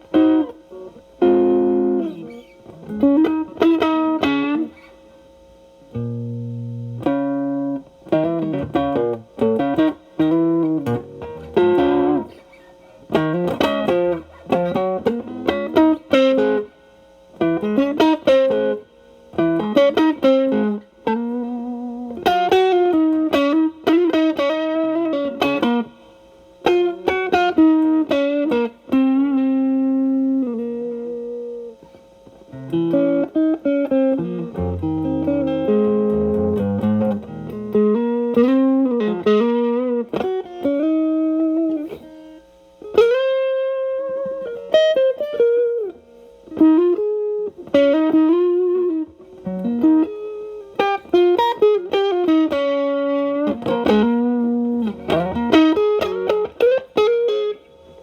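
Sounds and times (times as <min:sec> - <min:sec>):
electric guitar playing blues licks: 0:00.0 - 0:05.1, 0:05.9 - 0:58.0.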